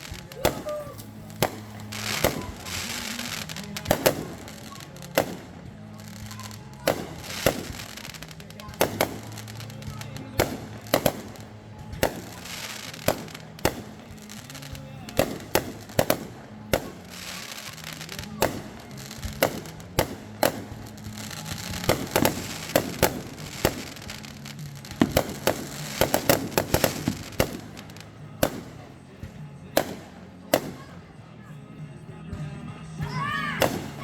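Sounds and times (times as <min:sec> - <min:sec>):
fireworks bangs: 0:00.0 - 0:31.1, 0:33.6 - 0:34.0
fireworks crackle: 0:00.0 - 0:31.2, 0:33.6 - 0:34.0.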